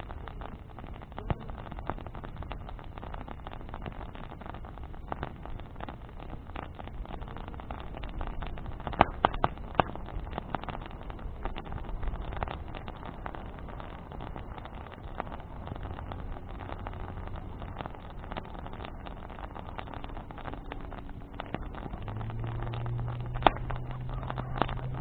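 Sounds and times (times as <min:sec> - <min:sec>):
bonfire crackling and popping: 0:00.0 - 0:25.0
low steady rumble: 0:00.0 - 0:25.0.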